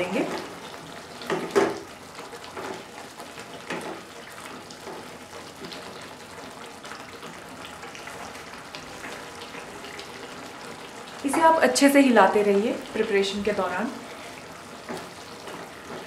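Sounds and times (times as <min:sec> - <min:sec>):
gravy bubbling and sizzling: 0:00.0 - 0:16.0.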